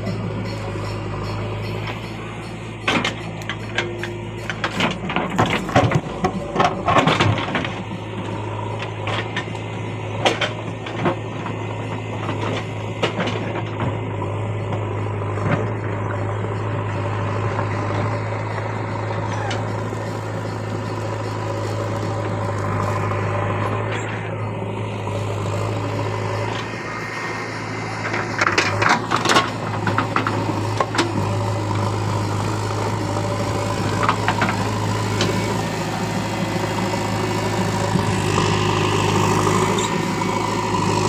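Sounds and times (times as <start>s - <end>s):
engine humming: 0.0s - 41.0s.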